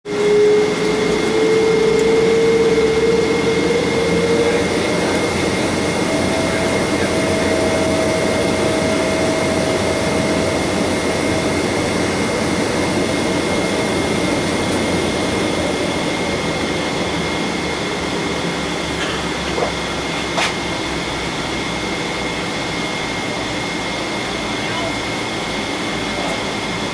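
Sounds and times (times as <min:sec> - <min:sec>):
higher jet engine whine: 0:00.1 - 0:26.9
jet engine whine: 0:00.1 - 0:26.9
jet engines rushing: 0:00.1 - 0:26.9.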